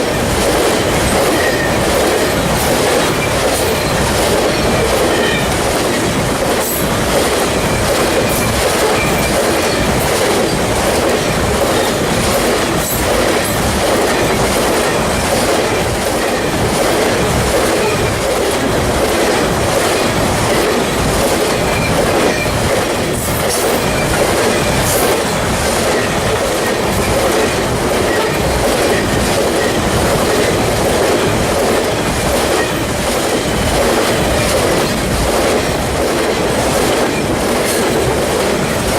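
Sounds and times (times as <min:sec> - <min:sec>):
clickety-clack of rail joints: 0:00.0 - 0:38.9
steel wheels rumbling on rail: 0:00.0 - 0:38.9.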